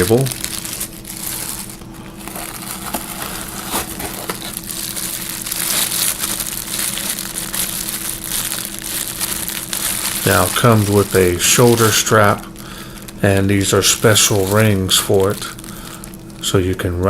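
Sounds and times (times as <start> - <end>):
plastic packaging crinkling: 0.0 - 17.0
steady low hum: 0.0 - 17.0.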